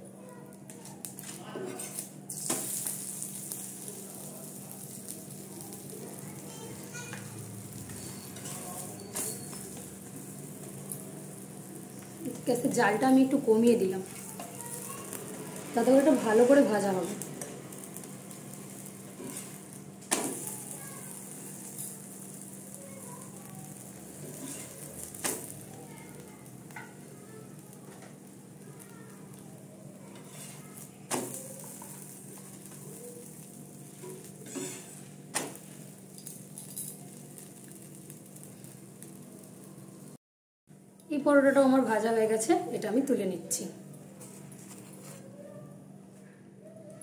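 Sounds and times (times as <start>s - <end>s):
flatbread sizzling on griddle: 0.0s - 40.2s, 43.9s - 45.3s.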